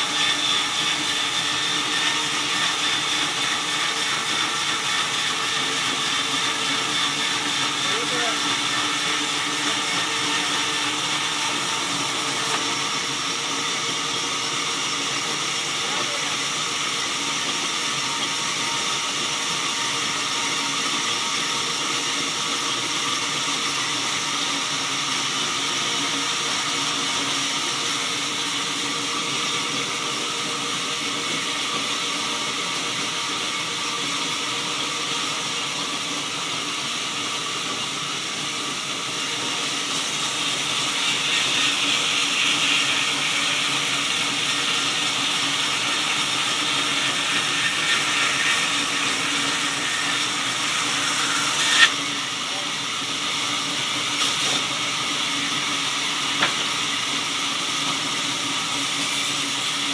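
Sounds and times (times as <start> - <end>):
band saw whining: 0.0 - 59.9.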